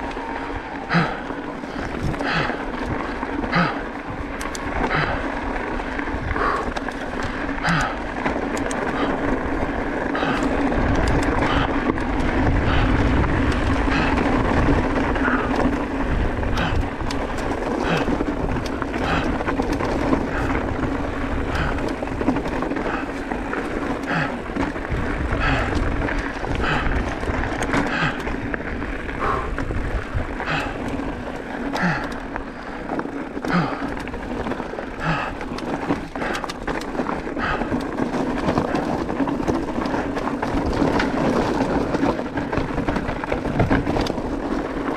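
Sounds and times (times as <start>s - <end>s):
bike rattling: 0.0s - 44.9s
tyres crunching on loose stones: 0.0s - 44.9s
wind rumble on microphone: 0.0s - 44.9s.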